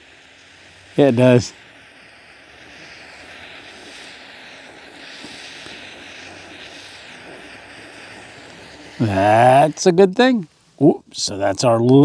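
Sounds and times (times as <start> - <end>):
torch lighter flame hissing: 0.0 - 12.0.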